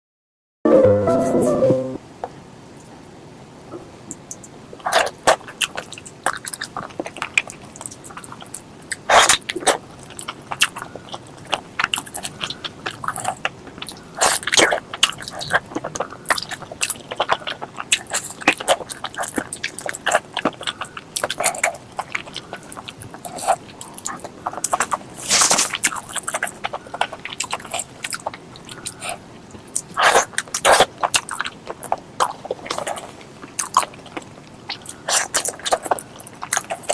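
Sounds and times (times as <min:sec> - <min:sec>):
wet chewing with mouth smacks: 0:04.3 - 0:36.9.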